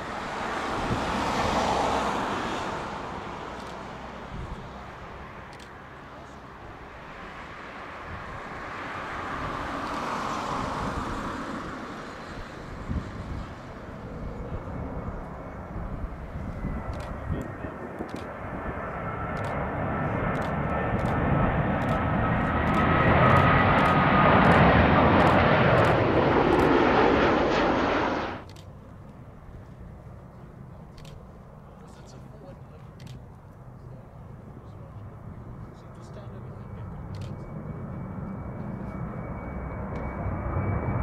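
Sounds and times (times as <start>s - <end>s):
jet airliner roar with whine: 0.0s - 41.0s.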